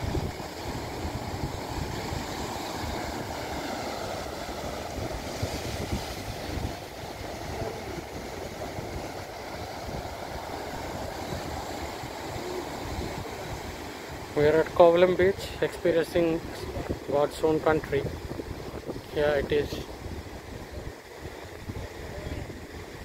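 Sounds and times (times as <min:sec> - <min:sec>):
surf breaking over rocks: 0:00.0 - 0:23.0
wind buffeting microphone: 0:00.0 - 0:23.0.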